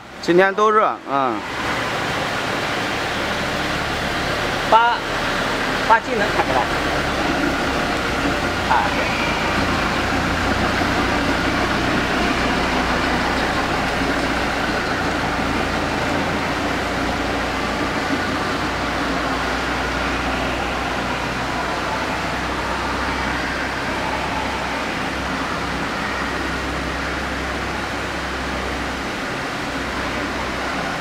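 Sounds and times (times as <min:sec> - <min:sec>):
tourist train engine hum: 0:00.0 - 0:31.0.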